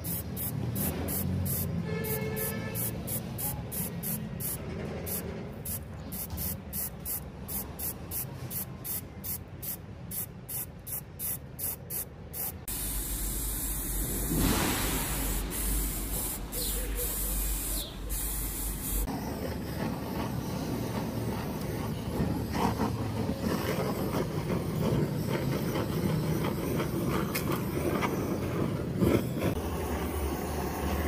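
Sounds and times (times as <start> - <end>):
spray paint can hissing: 0.0 - 29.5.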